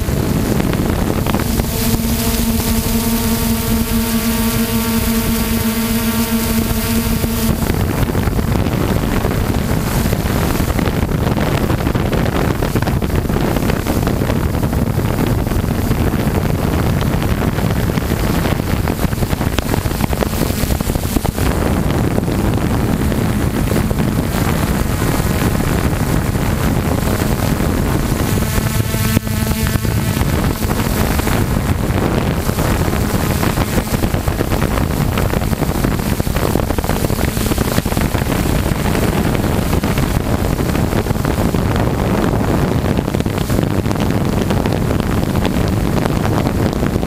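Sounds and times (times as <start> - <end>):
helicopter motor and rotor: 0.0 - 47.0
wind rushing over microphone: 0.0 - 47.0.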